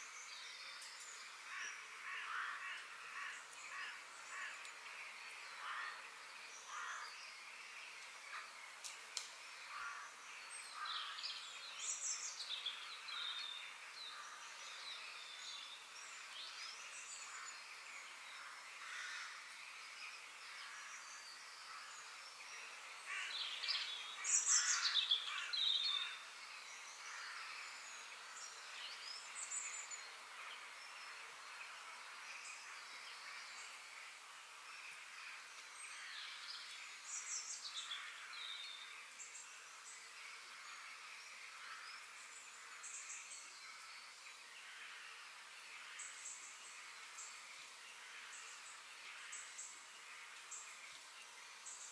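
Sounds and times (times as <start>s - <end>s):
steady background hiss: 0.0s - 51.9s.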